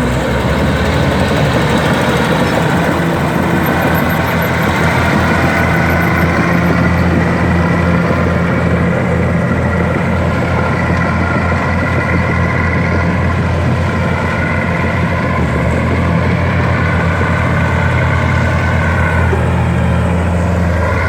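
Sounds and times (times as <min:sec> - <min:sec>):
bulldozer diesel engine running: 0:00.0 - 0:21.0
high engine whine: 0:00.0 - 0:21.0.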